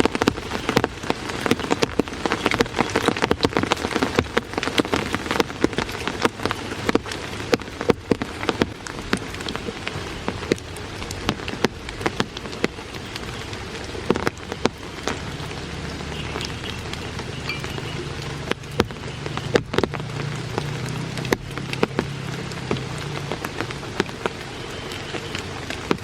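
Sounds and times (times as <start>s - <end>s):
heavy rain hiss: 0.0s - 26.0s
large raindrops tapping: 0.0s - 26.0s.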